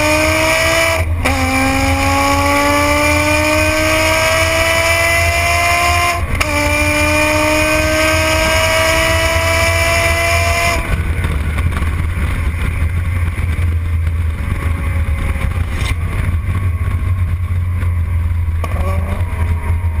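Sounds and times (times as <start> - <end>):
gearshift: 0.0 - 19.8
car engine accelerating hard: 0.0 - 20.0.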